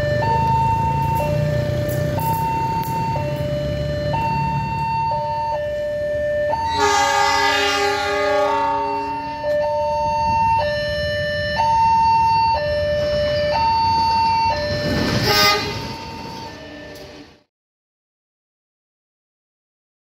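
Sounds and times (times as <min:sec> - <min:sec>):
two-tone level crossing alarm: 0:00.0 - 0:17.4.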